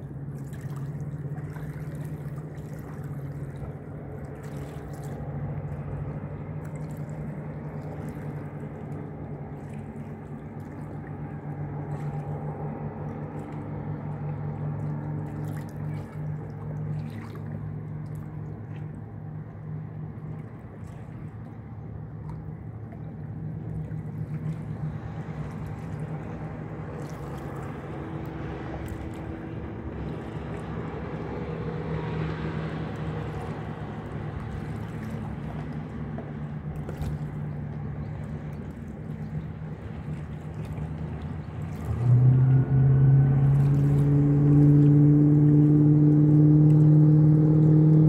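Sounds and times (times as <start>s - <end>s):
motorboat engine: 0.0s - 48.0s.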